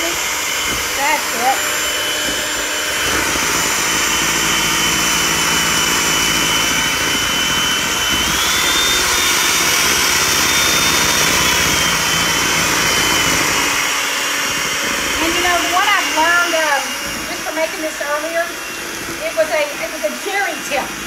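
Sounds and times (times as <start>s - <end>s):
electric hand mixer whirring: 0.0s - 21.0s.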